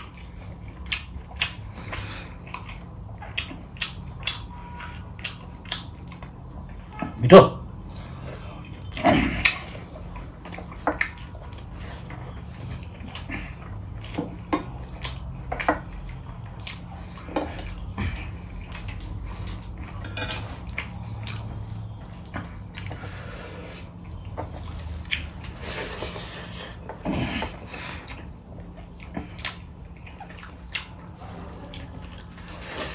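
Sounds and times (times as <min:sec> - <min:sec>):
wet chewing: 0:00.0 - 0:07.0, 0:07.7 - 0:32.9.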